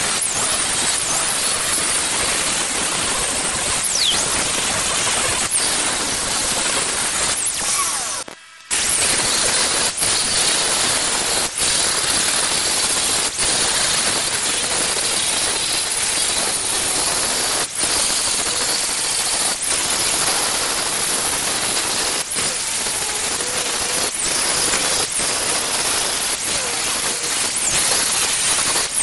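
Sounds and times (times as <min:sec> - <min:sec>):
angle grinder grinding steel: 0:00.0 - 0:29.0.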